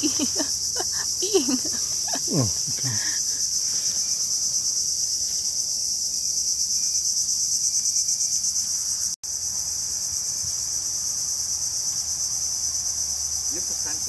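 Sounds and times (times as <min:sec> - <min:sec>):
insects buzzing in chorus: 0:00.0 - 0:14.0.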